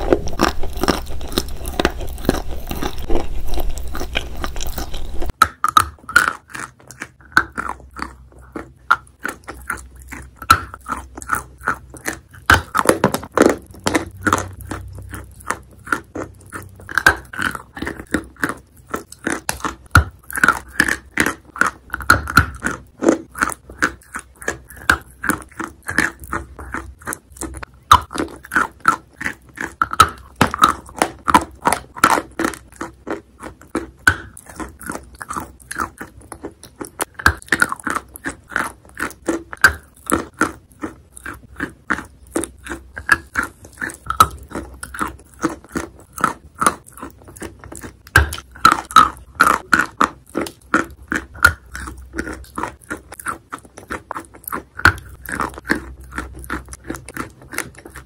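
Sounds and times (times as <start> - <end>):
crunching ice-cream coating: 0.0 - 58.0
wet chewing: 0.0 - 58.0.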